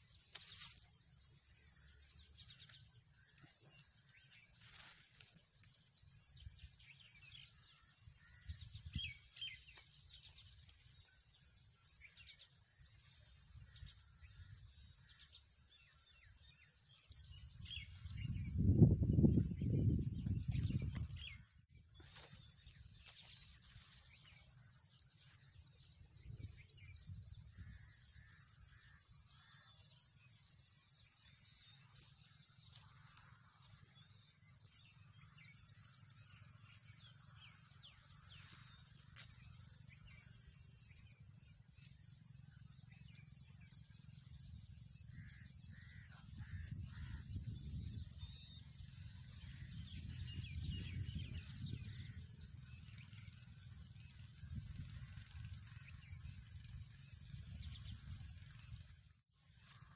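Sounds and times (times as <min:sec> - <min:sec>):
bird calls: 0:00.0 - 0:59.9.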